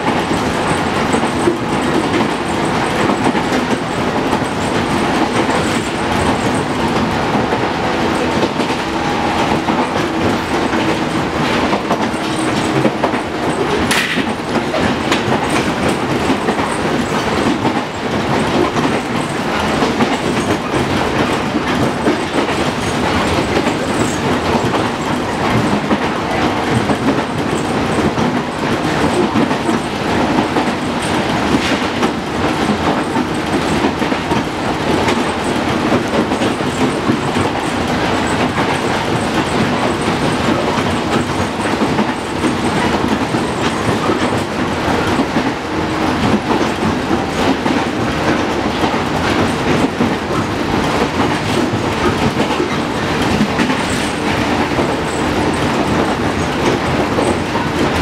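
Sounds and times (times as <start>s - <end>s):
train motors and wheels drone: 0.0s - 58.0s.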